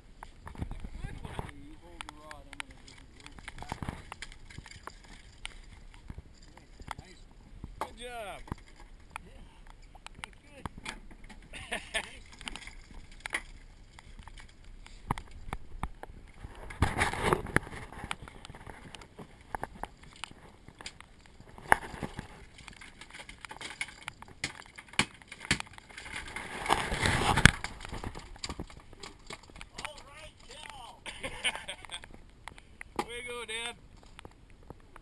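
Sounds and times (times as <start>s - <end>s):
rain gear rustling against camera: 0.0s - 35.0s.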